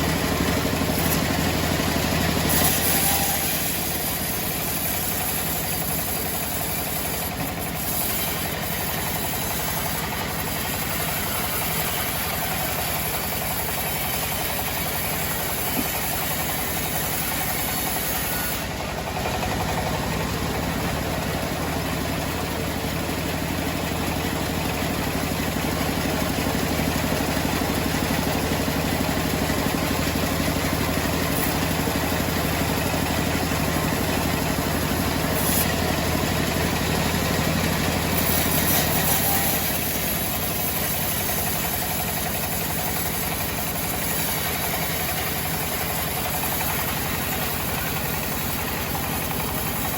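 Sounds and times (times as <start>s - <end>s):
saw cutting noise: 0.0s - 49.9s
sawmill engine drone: 0.0s - 49.9s.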